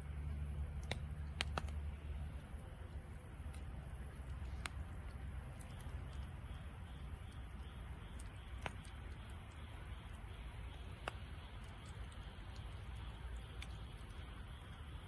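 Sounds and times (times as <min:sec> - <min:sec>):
campfire rumbling: 0:00.0 - 0:15.0
fire crackles and pops: 0:00.1 - 0:09.6, 0:10.2 - 0:12.8.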